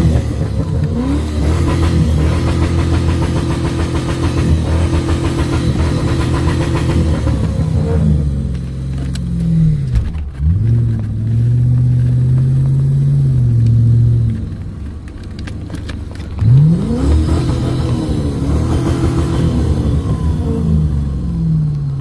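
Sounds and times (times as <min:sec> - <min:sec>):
engine revving: 0:00.0 - 0:14.6, 0:16.4 - 0:22.0.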